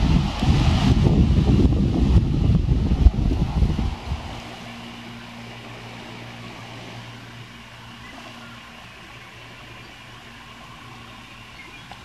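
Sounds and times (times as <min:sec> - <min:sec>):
distant engine hum: 0:00.0 - 0:12.0.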